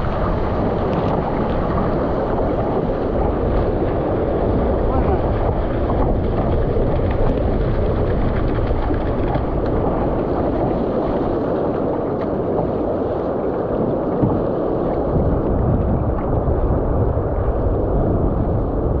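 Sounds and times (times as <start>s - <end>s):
water rushing along a boat hull: 0.0s - 19.0s
wind buffeting microphone: 0.0s - 19.0s.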